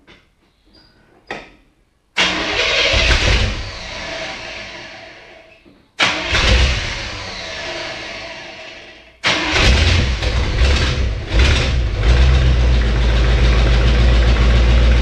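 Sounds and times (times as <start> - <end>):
car engine starting attempts: 2.2 - 5.2, 6.0 - 15.0.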